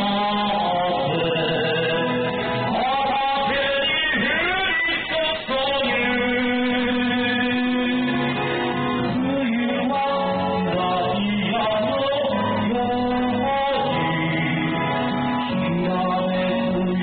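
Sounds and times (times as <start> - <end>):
backing track with guitar: 0.0 - 17.0
man singing into a microphone: 0.0 - 17.0.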